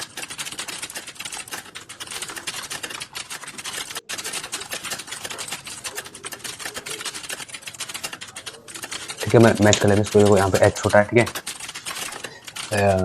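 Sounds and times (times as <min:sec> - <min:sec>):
typing on keyboard: 0:00.0 - 0:13.0.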